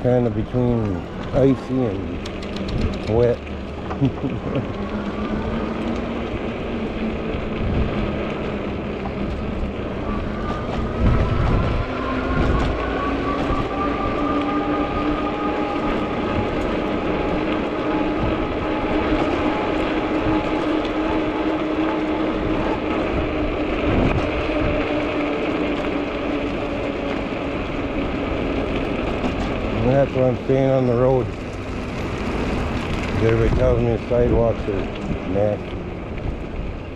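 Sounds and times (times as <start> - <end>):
wind noise on microphone: 0.0 - 30.0, 31.3 - 36.9
tires on wet slushy road: 0.0 - 36.9.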